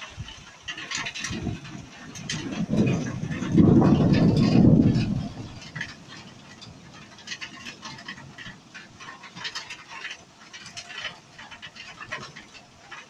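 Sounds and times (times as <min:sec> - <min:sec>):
raindrops tapping: 0:00.0 - 0:13.0
steady rain hiss: 0:00.0 - 0:13.0.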